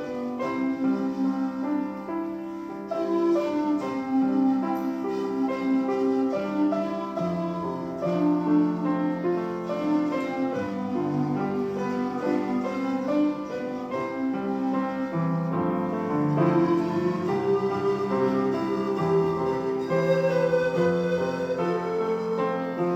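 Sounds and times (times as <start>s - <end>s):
instrumental hymn with piano: 0.0s - 22.9s.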